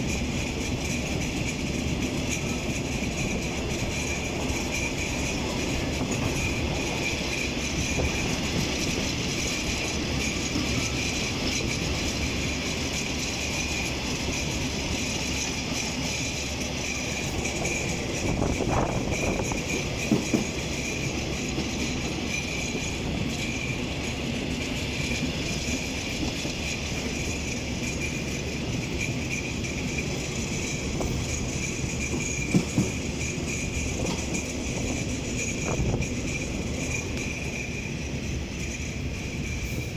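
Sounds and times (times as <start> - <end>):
train wheels rumbling on rails: 0.0 - 39.9
wheels clicking over rail joint: 0.0 - 39.9.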